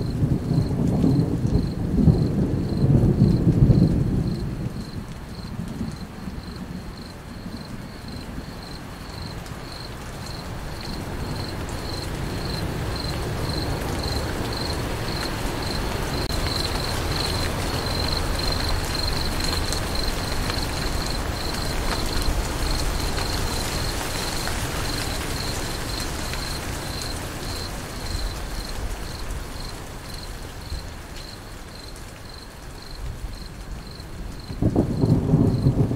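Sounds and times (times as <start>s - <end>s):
cricket chirping: 0.0s - 35.8s
rain: 0.0s - 35.9s.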